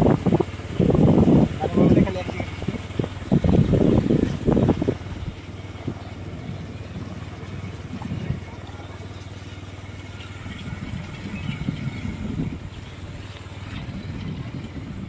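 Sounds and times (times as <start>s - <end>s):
low engine hum: 0.0s - 15.0s
road noise: 0.0s - 15.0s.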